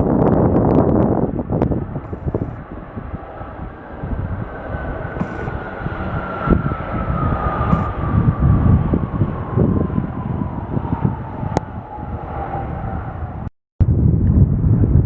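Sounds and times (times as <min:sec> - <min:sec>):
jet engines rumbling and whining: 0:00.0 - 0:15.0
wind buffeting microphone: 0:00.0 - 0:15.0.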